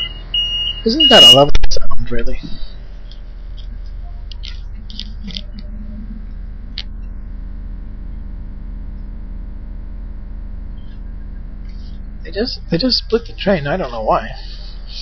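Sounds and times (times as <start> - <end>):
train carriage hum: 0.0 - 15.0.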